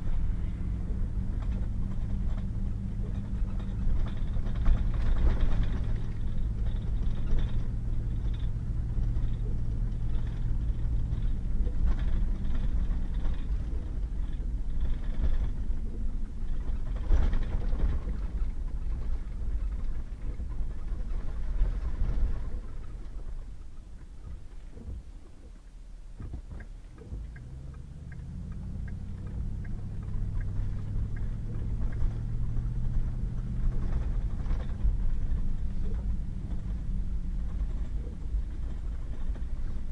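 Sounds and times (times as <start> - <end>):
truck engine: 0.0 - 39.9
tyres rumbling on gravel: 0.0 - 39.9.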